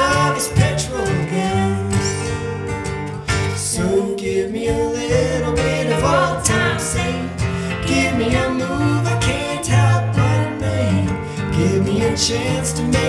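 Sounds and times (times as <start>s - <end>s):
person singing: 0.0s - 2.8s, 3.5s - 13.0s
electric keyboard: 0.0s - 13.0s
strummed acoustic guitar: 0.0s - 13.0s.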